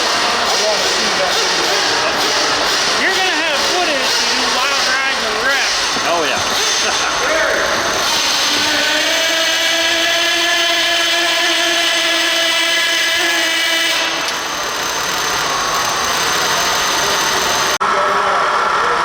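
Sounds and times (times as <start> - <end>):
motor high-pitched whine: 0.0 - 19.0
rough noisy mechanical sound: 0.0 - 19.0.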